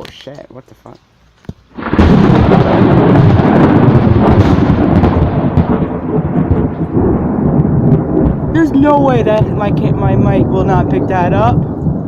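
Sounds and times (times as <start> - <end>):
thunder crack and rumble: 1.7 - 12.0.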